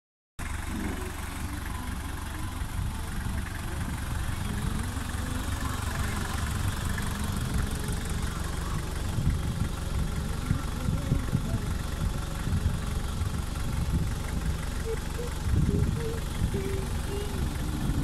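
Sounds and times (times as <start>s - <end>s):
diesel engine idling: 0.4s - 18.0s.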